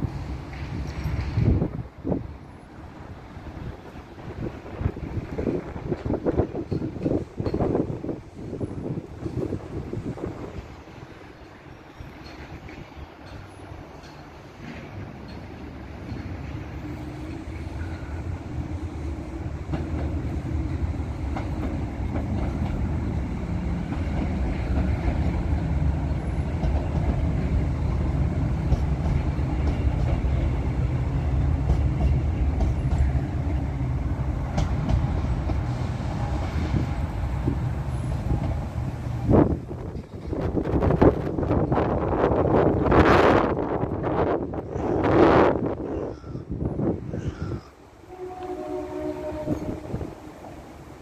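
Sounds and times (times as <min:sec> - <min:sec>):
train rumbling over a bridge: 0:00.0 - 0:51.0.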